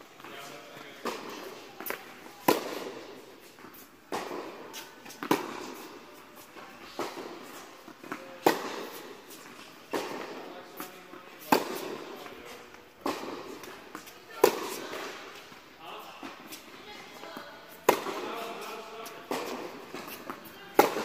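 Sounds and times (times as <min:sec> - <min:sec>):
tennis ball hit by rackets: 0:01.0 - 0:15.6, 0:16.2 - 0:21.0.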